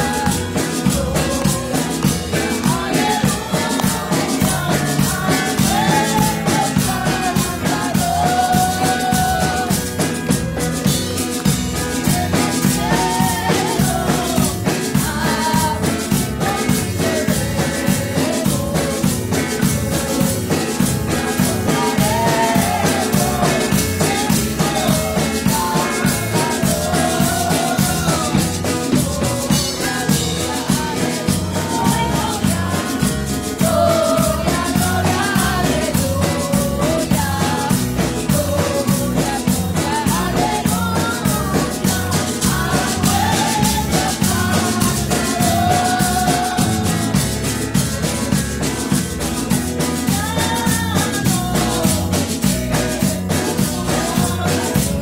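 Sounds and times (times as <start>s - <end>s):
woman singing into a microphone: 0.0s - 47.6s, 49.9s - 55.0s
electric bass guitar: 0.0s - 55.0s
steady drum beat: 0.0s - 55.0s.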